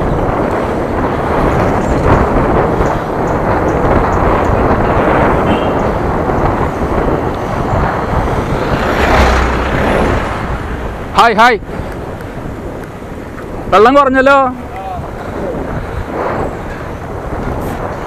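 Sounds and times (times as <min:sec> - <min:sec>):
road and traffic noise: 0:00.0 - 0:18.0
wind buffeting microphone: 0:00.0 - 0:18.0.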